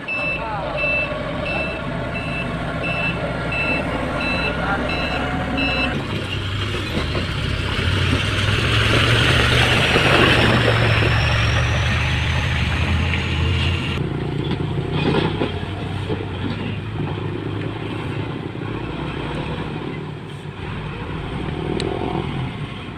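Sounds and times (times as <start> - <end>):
diesel engine under load: 0.0 - 22.9.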